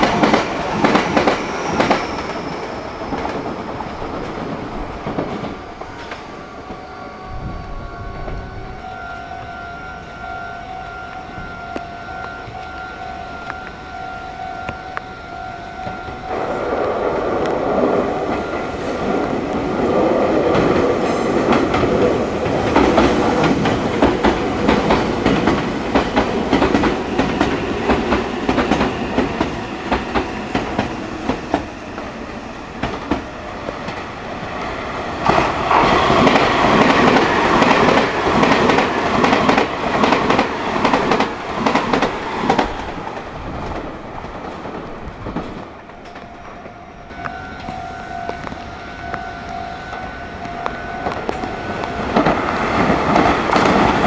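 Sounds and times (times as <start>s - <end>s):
train wheels clacking: 0.0s - 6.9s, 9.4s - 54.0s.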